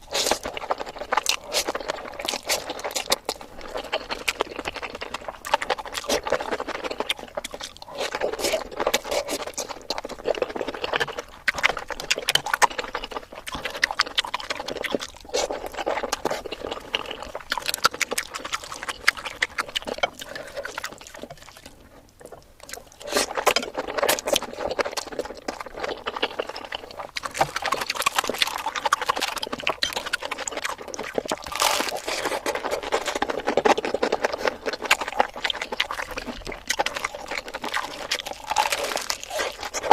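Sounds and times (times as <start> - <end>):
chewing and smacking: 0.0 - 39.9
slurping: 0.0 - 39.9.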